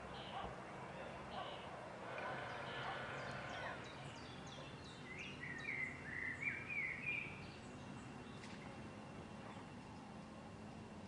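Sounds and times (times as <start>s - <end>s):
wild birds singing: 0.0s - 10.8s
steady background hiss: 0.0s - 11.0s.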